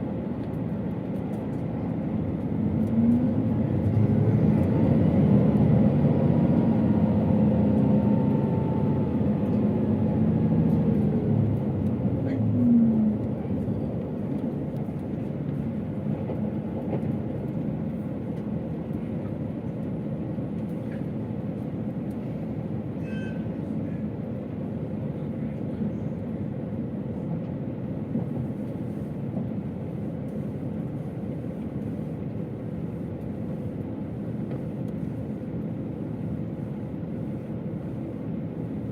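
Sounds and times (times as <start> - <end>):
diesel engine: 0.0 - 38.9
train rumbling on rails: 0.0 - 38.9.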